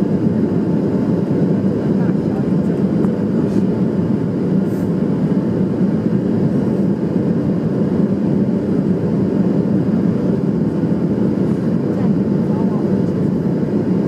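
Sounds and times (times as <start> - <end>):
airplane cabin engine noise: 0.0 - 14.0.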